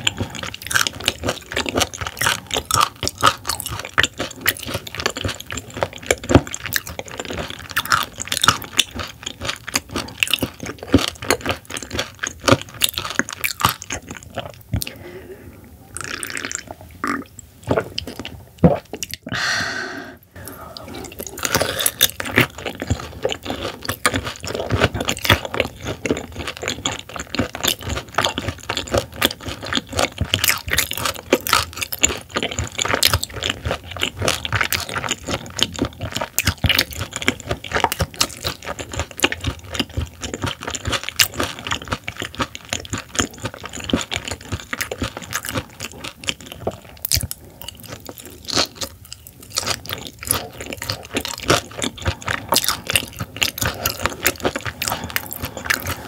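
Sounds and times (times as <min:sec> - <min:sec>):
wet chewing clicks: 0:00.0 - 0:15.0, 0:20.7 - 0:56.0.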